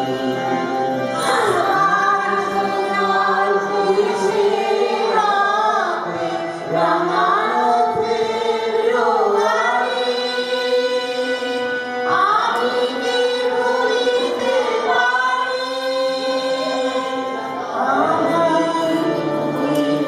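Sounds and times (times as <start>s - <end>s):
group singing in unison: 0.0s - 20.0s
harmonium held notes: 0.0s - 20.0s.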